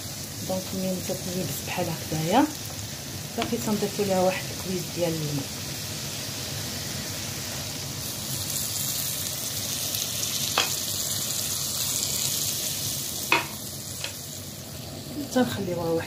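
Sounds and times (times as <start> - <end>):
sauce sizzling in a clay pot: 0.0 - 16.0.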